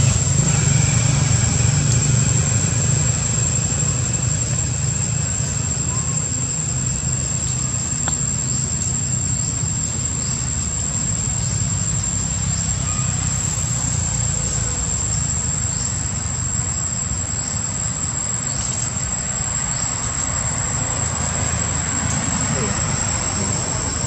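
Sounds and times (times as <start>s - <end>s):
faint chirps: 0.0s - 24.0s
high-pitched insect drone: 0.0s - 24.0s
steady low rumble: 0.0s - 24.0s.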